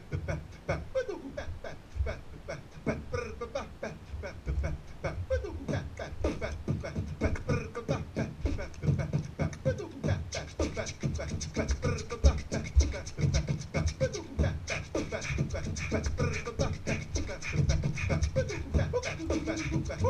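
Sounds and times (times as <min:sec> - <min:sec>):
person beatboxing: 0:00.0 - 0:20.0
sliding vocal tones: 0:00.0 - 0:20.0.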